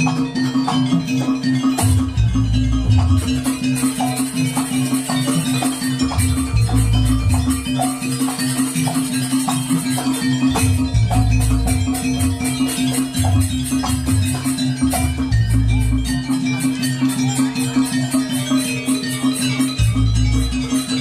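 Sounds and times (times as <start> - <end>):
fast metallic percussion ticking: 0.0 - 21.0.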